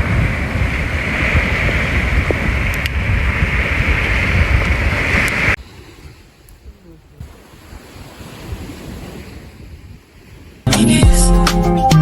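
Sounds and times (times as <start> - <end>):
sea waves washing on beach: 0.0 - 10.7
wind rumble on microphone: 0.0 - 10.7.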